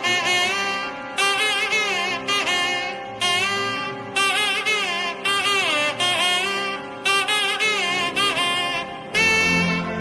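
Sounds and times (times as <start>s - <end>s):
bending lead melody: 0.0s - 10.0s
held drone: 0.0s - 10.0s.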